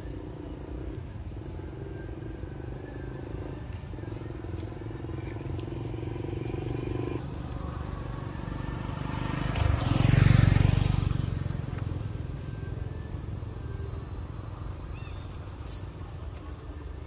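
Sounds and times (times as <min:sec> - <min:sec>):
vehicle engine driving past: 0:00.0 - 0:16.0.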